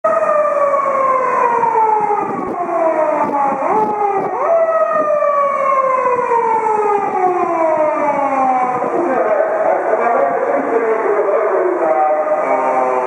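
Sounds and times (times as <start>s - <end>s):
police car siren wailing: 0.0s - 13.0s.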